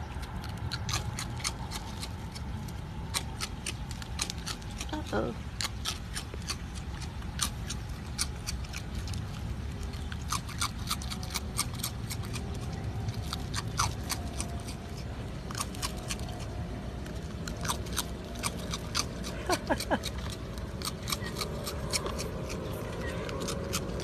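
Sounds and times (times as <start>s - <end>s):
raccoon crunching cereal: 0.0s - 24.0s.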